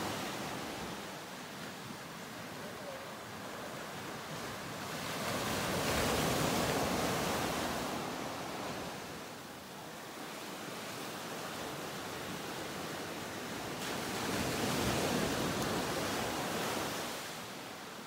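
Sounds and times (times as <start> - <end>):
ocean surf washing: 0.0 - 18.0.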